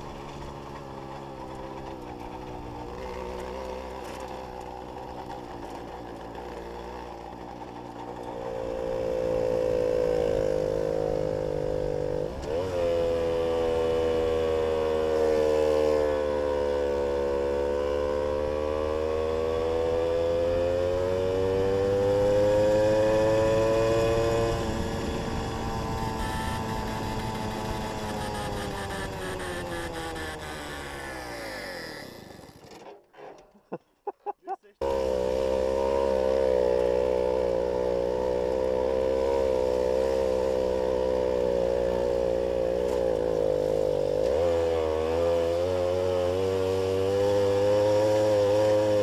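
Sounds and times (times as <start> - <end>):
moped two-stroke engine running: 0.0 - 32.9, 34.4 - 49.0.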